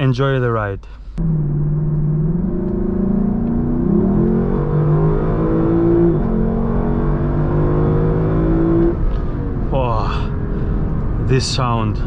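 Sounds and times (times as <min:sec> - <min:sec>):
car engine accelerating: 0:01.2 - 0:12.0.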